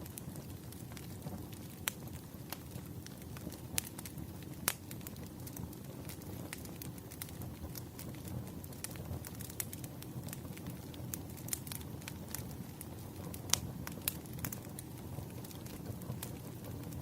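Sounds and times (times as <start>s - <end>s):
fire low rumble: 0.0s - 17.0s
firewood crackling and popping: 0.0s - 17.0s.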